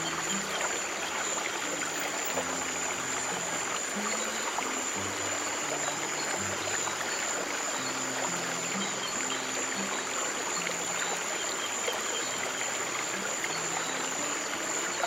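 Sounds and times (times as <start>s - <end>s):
flowing stream: 0.0s - 15.0s
soft low music notes: 0.0s - 15.0s.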